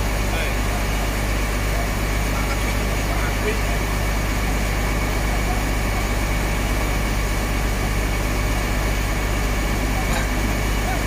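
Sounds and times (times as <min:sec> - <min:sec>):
heavy machinery engine droning: 0:00.0 - 0:11.0.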